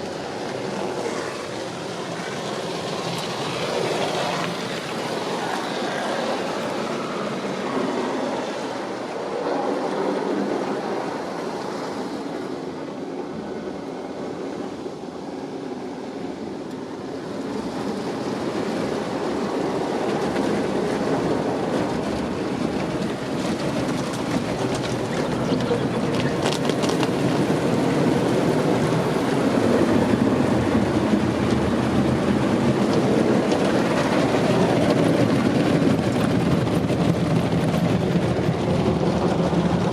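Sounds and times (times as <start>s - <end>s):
car wash water spray and machinery: 0.0s - 39.9s.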